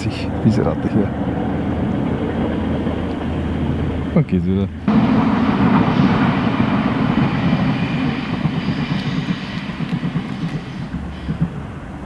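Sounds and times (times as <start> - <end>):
passing vehicle rumble: 0.0 - 12.0.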